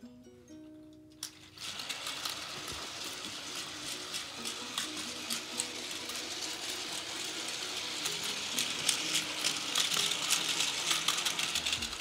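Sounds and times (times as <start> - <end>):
toy train rattling on plastic track: 1.2 - 12.0.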